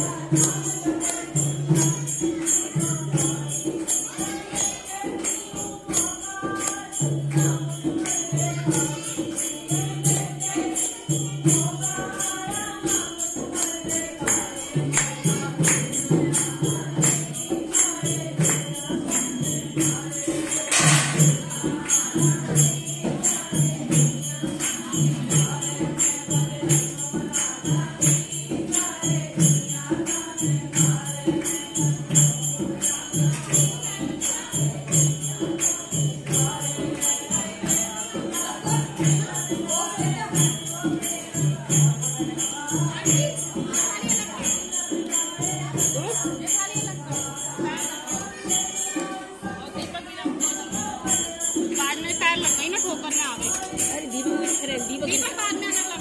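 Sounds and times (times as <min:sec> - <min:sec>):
jingling percussion: 0:00.0 - 0:56.0
steady drum beat: 0:00.0 - 0:56.0.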